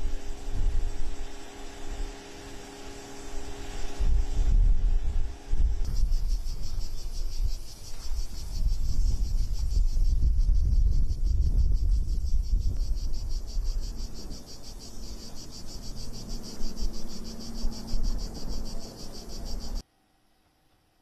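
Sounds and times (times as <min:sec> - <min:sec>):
cicadas buzzing: 0:00.0 - 0:19.8
wind rumbling on microphone: 0:00.0 - 0:19.8.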